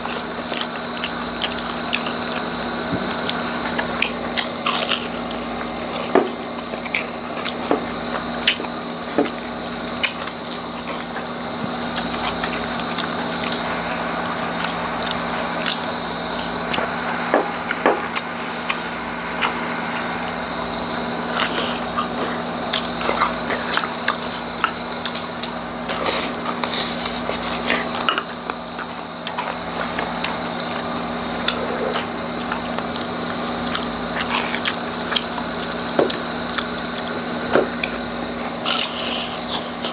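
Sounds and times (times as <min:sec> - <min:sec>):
crunching and chewing: 0:00.0 - 0:39.9.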